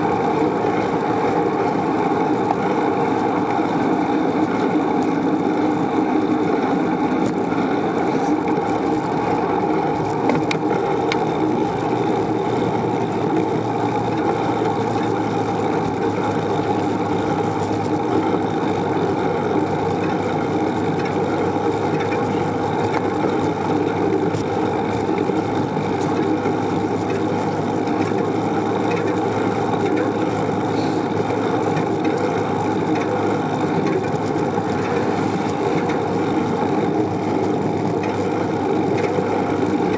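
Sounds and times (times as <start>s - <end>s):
bicycle tyre and road noise: 0.0s - 39.9s.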